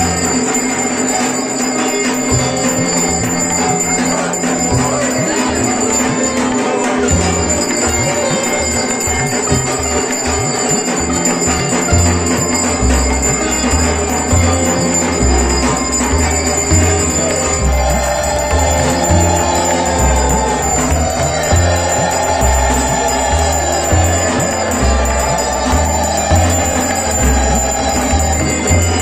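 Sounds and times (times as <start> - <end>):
bell ringing continuously: 0.0 - 29.0
music with low beat: 0.0 - 29.0.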